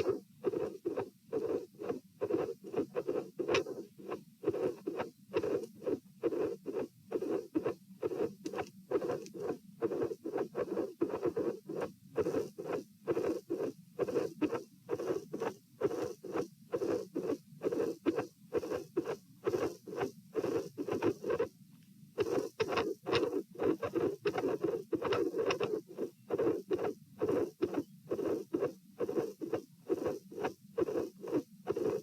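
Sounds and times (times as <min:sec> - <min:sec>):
heartbeat through stethoscope: 0:00.0 - 0:21.5, 0:22.2 - 0:32.0.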